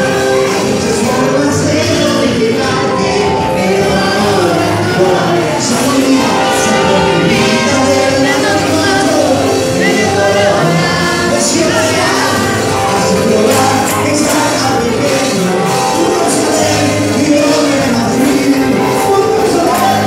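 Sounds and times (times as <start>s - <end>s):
singing over a band: 0.0s - 20.0s.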